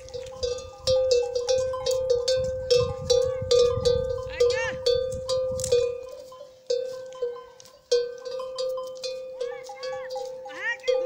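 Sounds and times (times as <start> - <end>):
metal neck bell clanking: 0.0 - 11.0.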